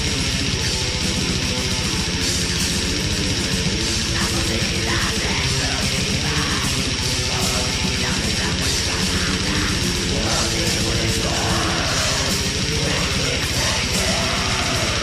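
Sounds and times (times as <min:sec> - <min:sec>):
distorted electric guitars: 0:00.0 - 0:15.0
very fast drumming: 0:00.0 - 0:15.0.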